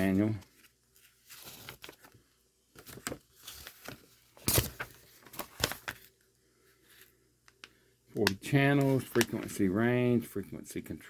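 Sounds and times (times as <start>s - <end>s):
paper pages rustling: 0.0s - 6.2s, 6.9s - 9.8s.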